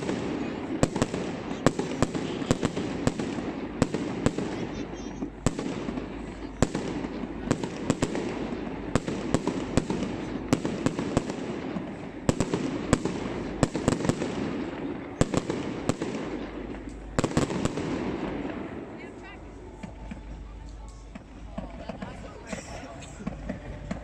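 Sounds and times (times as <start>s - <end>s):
fireworks bangs: 0.0s - 24.0s
steady background din: 0.0s - 24.0s.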